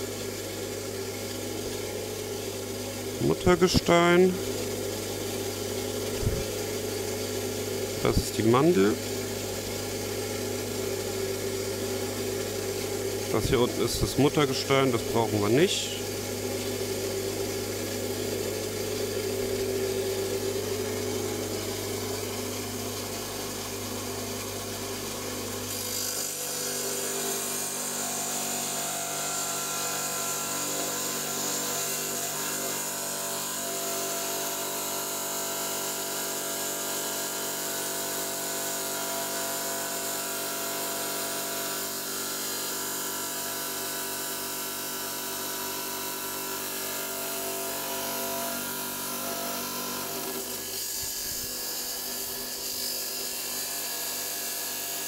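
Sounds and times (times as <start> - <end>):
electric stone saw cutting: 0.0 - 55.0.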